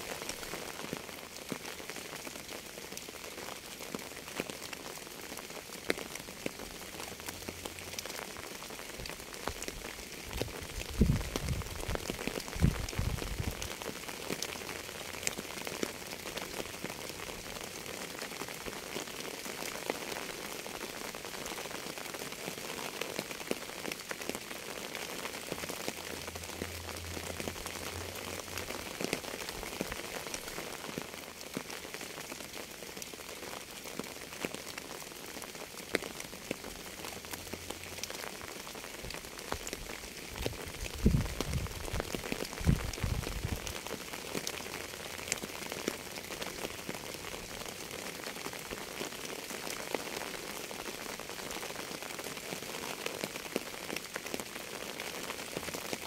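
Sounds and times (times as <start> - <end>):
rain drops ticking on hard surface: 0.0 - 56.0.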